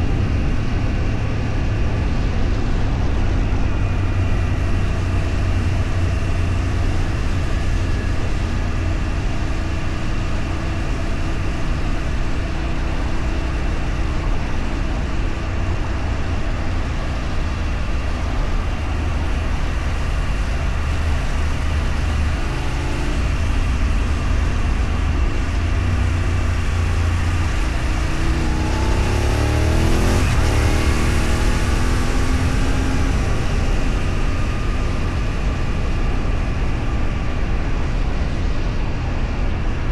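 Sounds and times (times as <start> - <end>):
vehicle engine and road noise: 0.0 - 39.9
engine tone dropping in pitch: 0.1 - 37.5.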